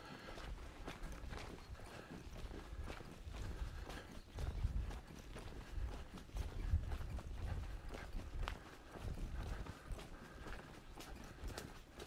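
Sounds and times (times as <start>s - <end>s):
footsteps as dull thuds: 0.0s - 12.0s.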